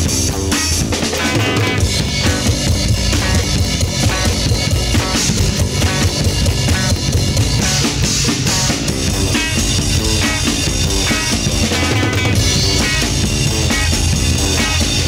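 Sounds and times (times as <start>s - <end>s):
drum kit beat: 0.0s - 15.0s
rock instrumental playing: 0.0s - 15.0s.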